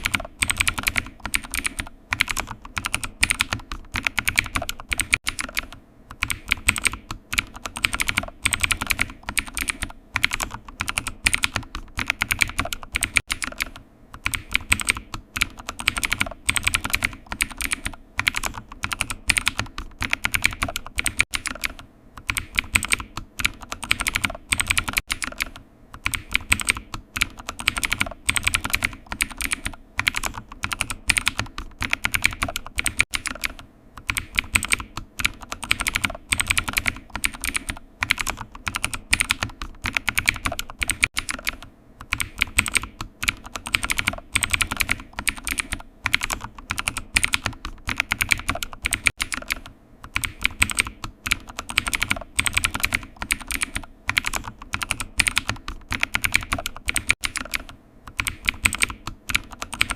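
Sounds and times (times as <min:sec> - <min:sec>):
typing on computer keyboard: 0:00.0 - 0:59.9.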